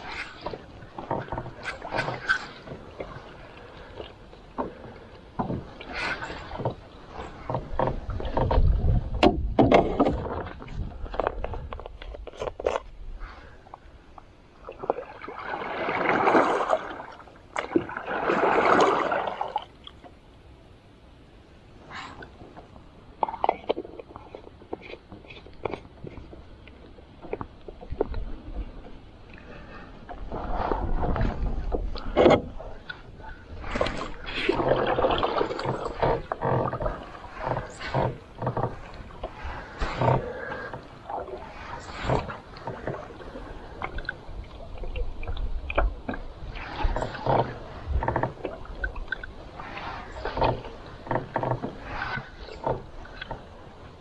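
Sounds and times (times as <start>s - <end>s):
paddle splashing in water: 0.0s - 13.6s, 14.6s - 20.2s, 27.2s - 54.0s
water swishing along hull: 0.0s - 54.0s.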